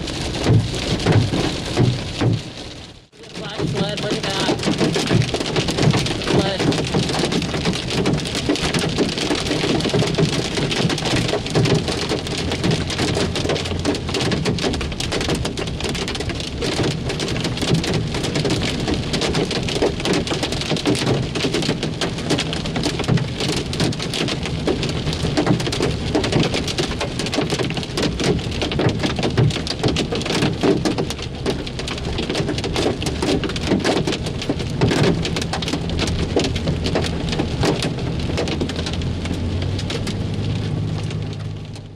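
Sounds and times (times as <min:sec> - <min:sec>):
heavy hail clattering: 0:00.0 - 0:02.6, 0:03.2 - 0:40.2.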